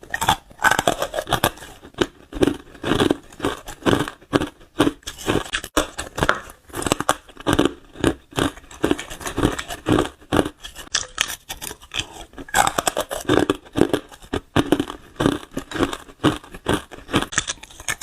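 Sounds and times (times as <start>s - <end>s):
ice being crunched and chewed: 0.0s - 18.0s.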